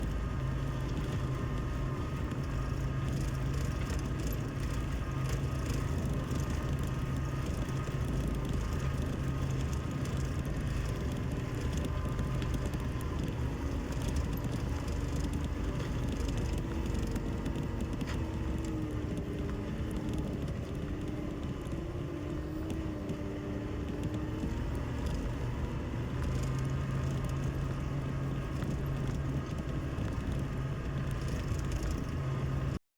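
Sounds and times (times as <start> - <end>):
loader engine running: 0.0 - 32.8.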